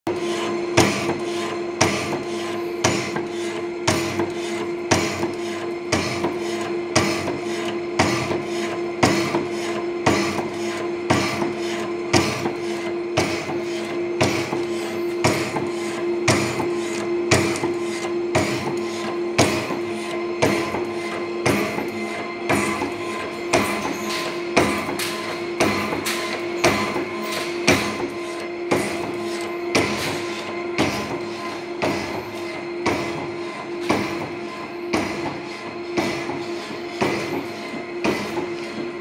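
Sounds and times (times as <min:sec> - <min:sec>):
steady motor hum: 0:00.1 - 0:39.0.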